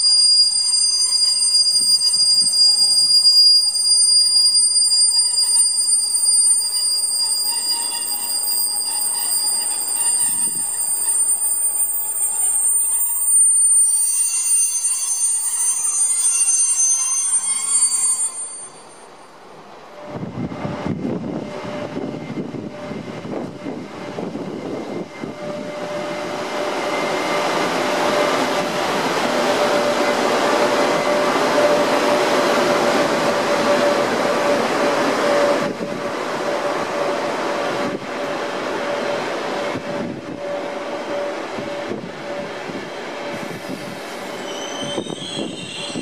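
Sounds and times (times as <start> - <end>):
train wheels on rail rumble: 0.0 - 16.2, 18.7 - 46.0
locomotive whine: 0.0 - 46.0.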